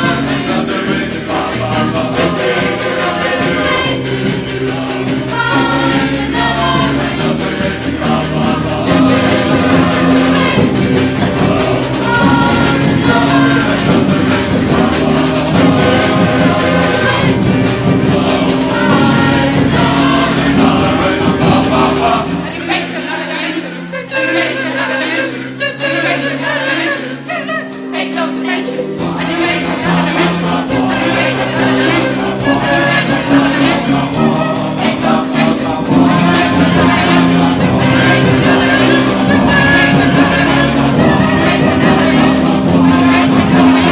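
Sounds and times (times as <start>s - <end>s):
large choir singing: 0.0s - 43.9s
percussion band drumming: 0.0s - 43.9s.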